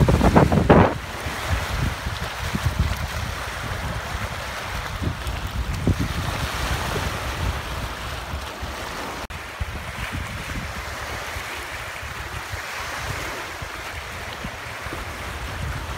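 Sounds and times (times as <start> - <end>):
waves splashing on rocky shore: 0.0 - 15.9
wind buffeting microphone: 0.0 - 15.9.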